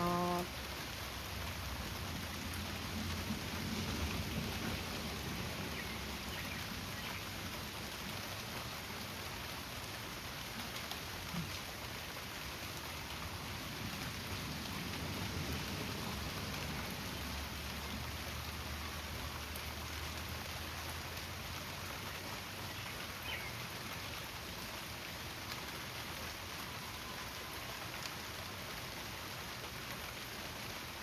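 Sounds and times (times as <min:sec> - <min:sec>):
heavy rain on cement: 0:00.0 - 0:31.0.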